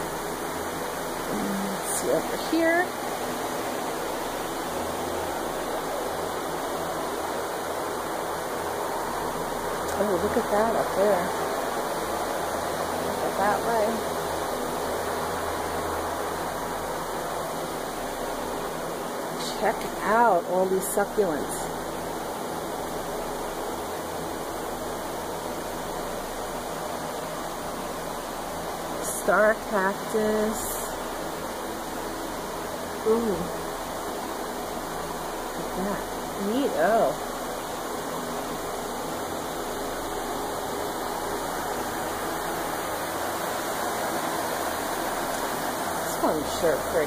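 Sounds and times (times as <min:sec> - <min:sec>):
circulating fans whoosh and hum: 0:00.0 - 0:47.0
steady rushing greenhouse ambience: 0:00.0 - 0:47.0.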